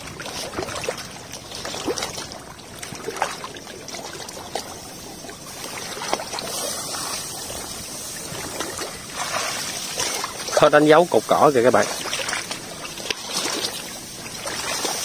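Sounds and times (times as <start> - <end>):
water sloshing from wading: 0.0 - 15.0.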